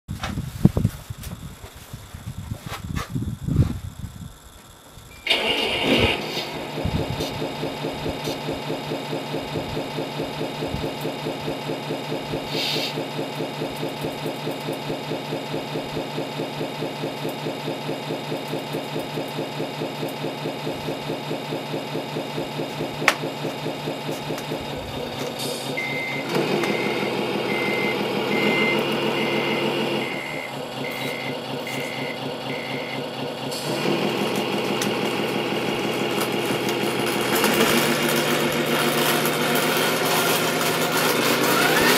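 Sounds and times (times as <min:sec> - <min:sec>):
reversing beeper: 0:05.1 - 0:39.6
diesel truck engine idling: 0:05.3 - 0:41.9.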